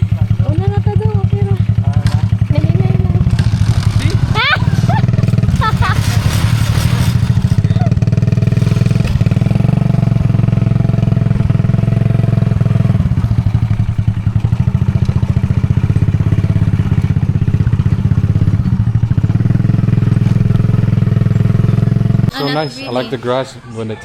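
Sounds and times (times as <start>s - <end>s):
small motorcycle engine running: 0.0s - 22.3s.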